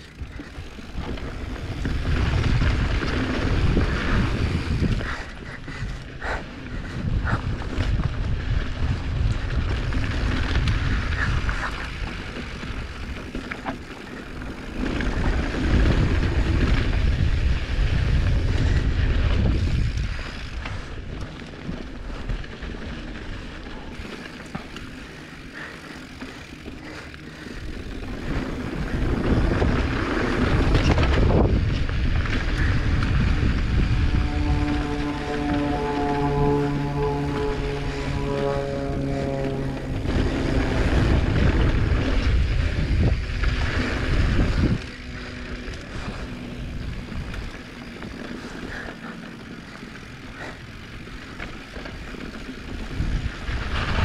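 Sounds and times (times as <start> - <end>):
wind rushing over microphone: 0.0 - 22.6, 23.7 - 54.0
bike rattle clicks: 0.0 - 38.5, 39.5 - 54.0
bike tyres rolling on dirt: 0.0 - 54.0.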